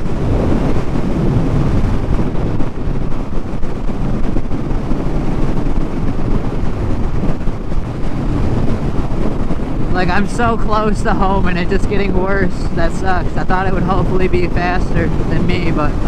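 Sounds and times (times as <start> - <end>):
wind rush over microphone: 0.0 - 16.0.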